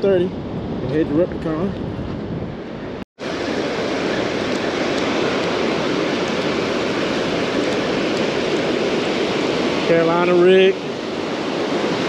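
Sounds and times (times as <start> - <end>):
ocean surf washing ashore: 0.0 - 12.0.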